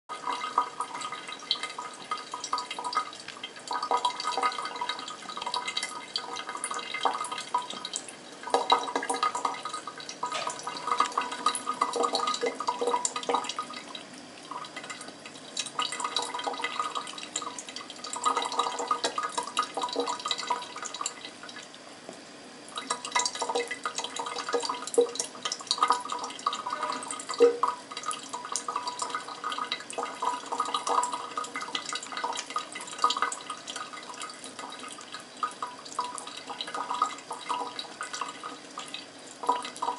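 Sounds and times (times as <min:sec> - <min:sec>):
tap water splashing into sink: 0:00.1 - 0:22.2, 0:22.8 - 0:39.9.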